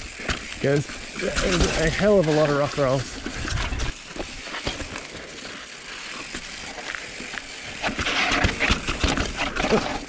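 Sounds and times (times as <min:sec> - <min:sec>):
bike rattling over bumps: 0:00.0 - 0:10.0
bike tyres rolling over rock: 0:00.0 - 0:10.0.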